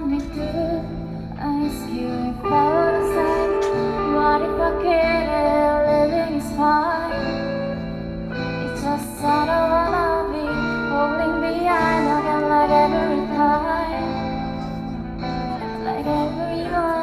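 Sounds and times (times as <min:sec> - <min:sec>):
band playing with guitar: 0:00.0 - 0:17.0
woman singing slow song: 0:00.0 - 0:17.0.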